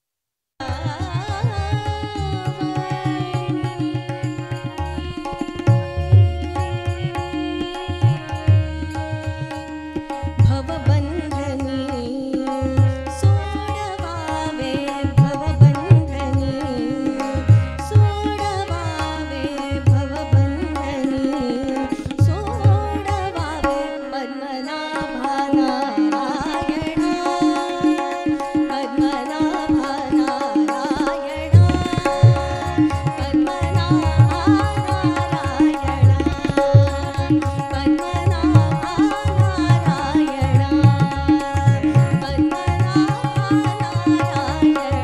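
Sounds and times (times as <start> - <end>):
harmonium: 0.6 - 45.0
woman singing: 0.6 - 45.0.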